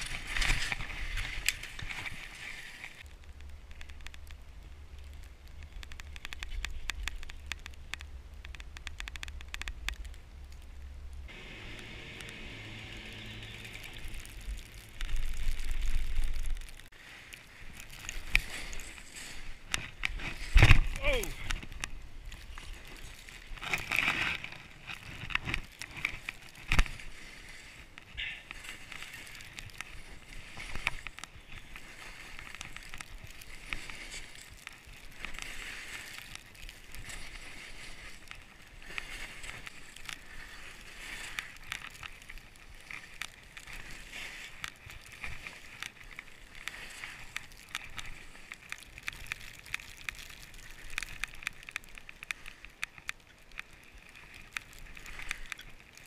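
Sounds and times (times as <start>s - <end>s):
skis sliding through snow: 0.0s - 5.0s, 11.3s - 56.0s.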